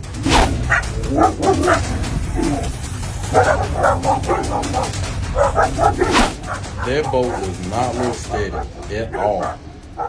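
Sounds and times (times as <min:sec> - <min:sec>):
dog barking and yipping: 0:00.0 - 0:10.0.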